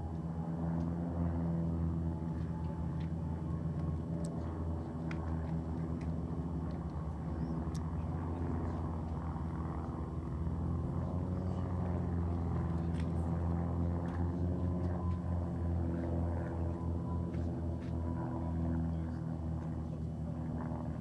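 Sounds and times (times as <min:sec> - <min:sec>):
engine droning steadily: 0:00.0 - 0:21.0.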